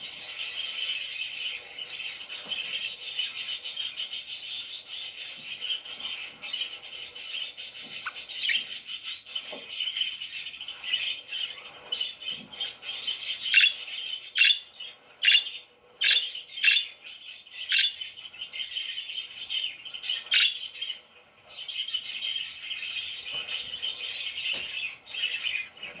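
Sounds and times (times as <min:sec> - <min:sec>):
parakeets chirping and chattering: 0:00.0 - 0:26.0.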